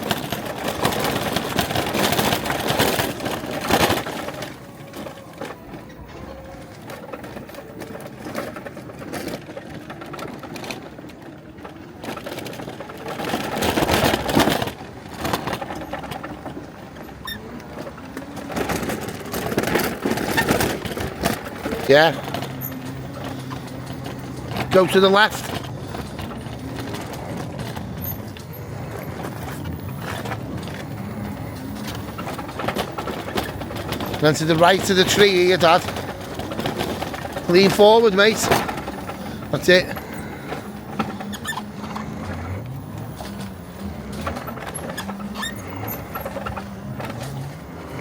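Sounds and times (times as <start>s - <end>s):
small vehicle rumbling along path: 0.0s - 48.0s.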